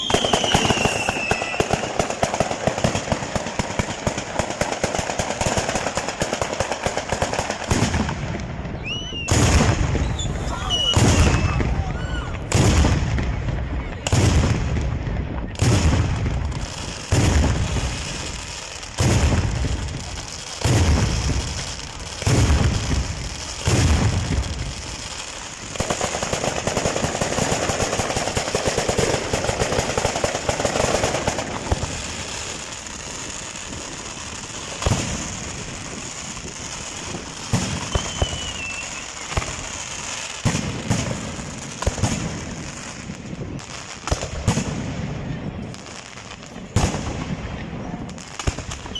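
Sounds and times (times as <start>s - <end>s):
fireworks booming: 0.0s - 48.9s
fireworks crackling barrage: 0.0s - 48.9s.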